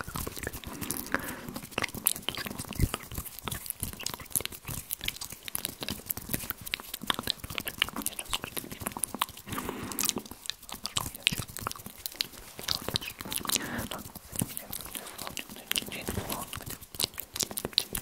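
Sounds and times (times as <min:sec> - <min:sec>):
mouth clicks and crackles: 0:00.0 - 0:18.0.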